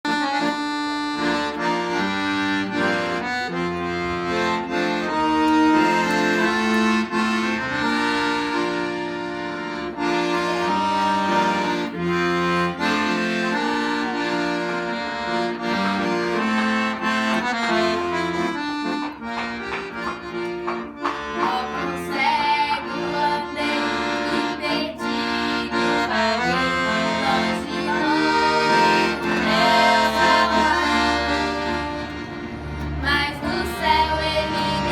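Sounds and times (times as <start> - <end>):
accordion playing: 0.0 - 34.9.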